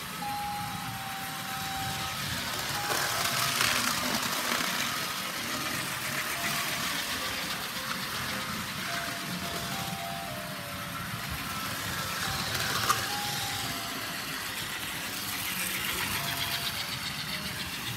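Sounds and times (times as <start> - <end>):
model trains whirring: 0.0 - 17.9.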